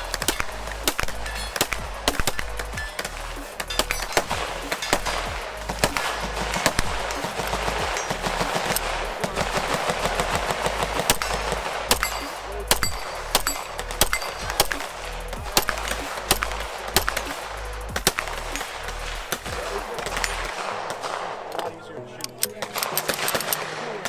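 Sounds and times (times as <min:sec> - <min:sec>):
gunshots: 0:00.0 - 0:21.8, 0:22.6 - 0:24.0.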